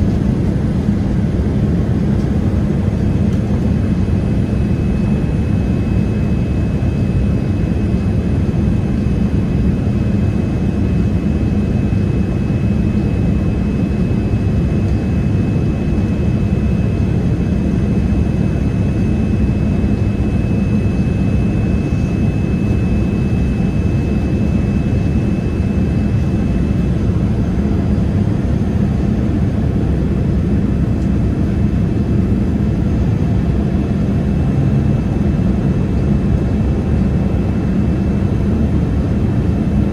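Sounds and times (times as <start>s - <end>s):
airliner cabin engine rush: 0.0s - 39.9s.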